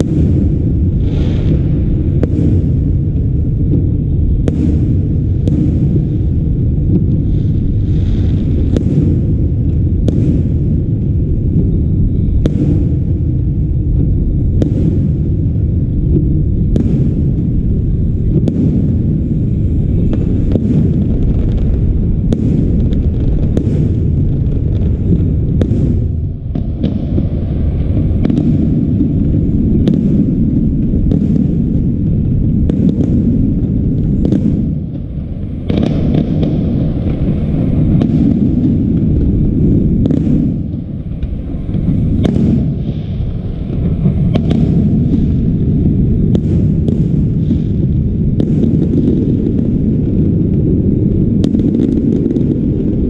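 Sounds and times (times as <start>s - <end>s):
fireworks bursting with bangs: 0.0s - 53.0s
low rumble: 0.0s - 53.0s.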